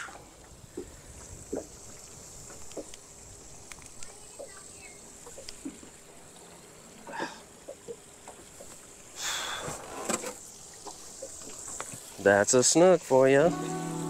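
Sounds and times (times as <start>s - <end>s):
knocks and rustling in small boat: 0.0s - 14.0s.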